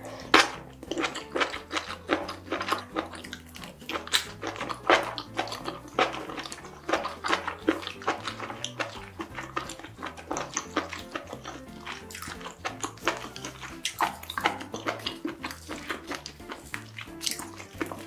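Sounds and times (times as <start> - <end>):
wet chewing of food: 0.0 - 18.0.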